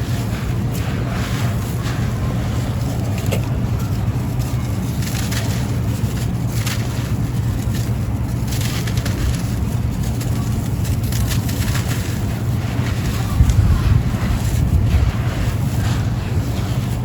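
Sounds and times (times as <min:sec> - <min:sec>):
sand-cement crunching: 0:00.0 - 0:17.0
steady low rumble: 0:00.0 - 0:17.0.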